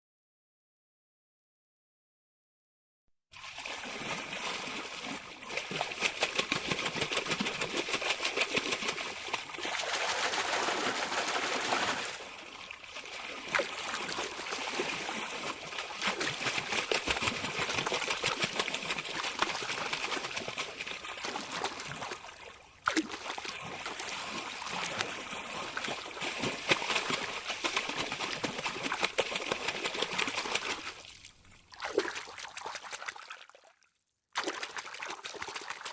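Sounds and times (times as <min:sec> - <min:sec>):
water trickling and splashing: 0:03.4 - 0:35.9.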